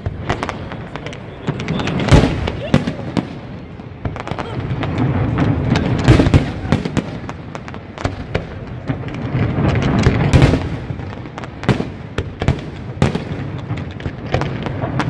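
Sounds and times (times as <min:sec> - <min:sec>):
fireworks bangs and crackles: 0:00.0 - 0:15.0
rumble of fireworks bursts: 0:00.0 - 0:15.0.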